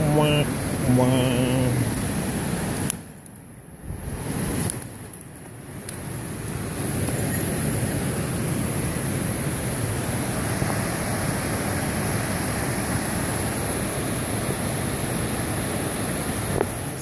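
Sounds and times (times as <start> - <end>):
water rushing: 0.0 - 3.1, 6.0 - 17.0.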